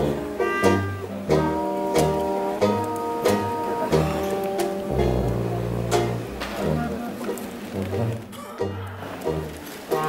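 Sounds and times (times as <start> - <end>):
low bass notes: 0.0 - 10.0
plucked string instrument music: 0.0 - 10.0.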